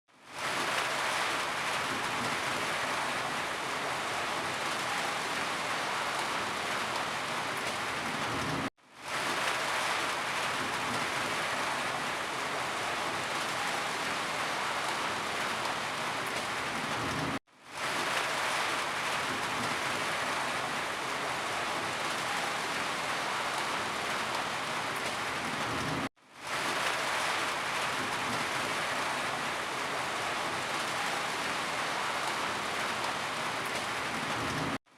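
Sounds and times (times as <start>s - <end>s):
dense rainfall hiss: 0.3s - 34.8s.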